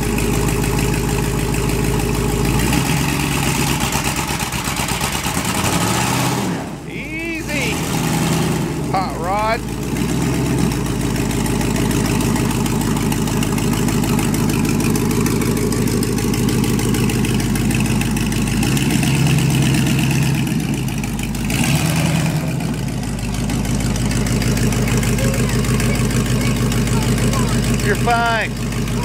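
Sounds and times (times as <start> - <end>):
pickup truck engine running: 0.0 - 29.0.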